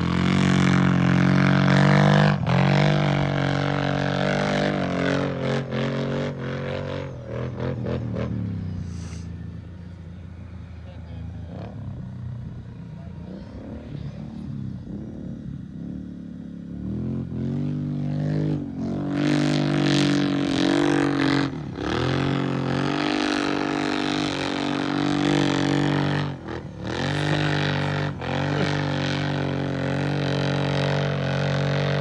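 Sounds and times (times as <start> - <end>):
quad engine revving: 0.0 - 9.2, 11.4 - 32.0.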